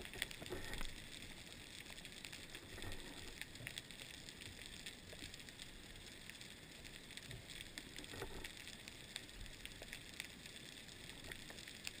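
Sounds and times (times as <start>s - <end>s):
steady hiss: 0.0s - 12.0s
underwater crackling clicks: 0.0s - 12.0s.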